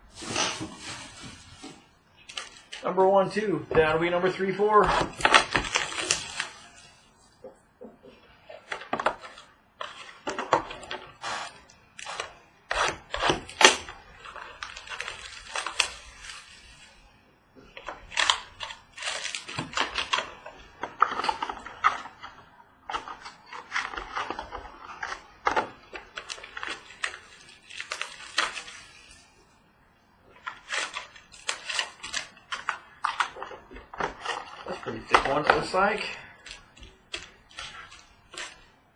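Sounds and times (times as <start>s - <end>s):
cardboard and wrapper rustling: 0.0s - 7.2s, 8.5s - 29.5s, 30.2s - 38.9s.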